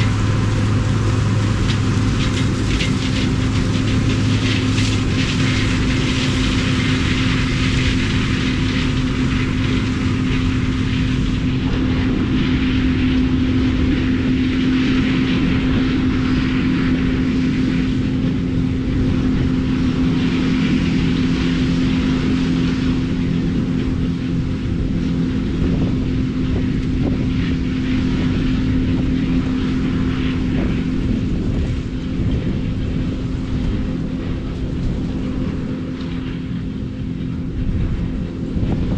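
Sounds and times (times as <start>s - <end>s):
harvest machinery engine drone: 0.0s - 38.9s.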